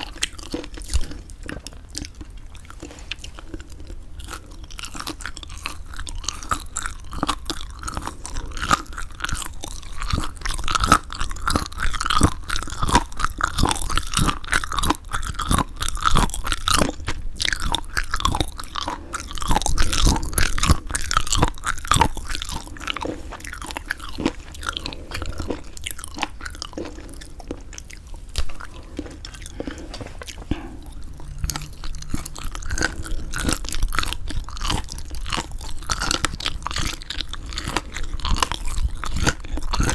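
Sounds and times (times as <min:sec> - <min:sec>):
chewing with clicks and crackles: 0:00.0 - 0:39.9.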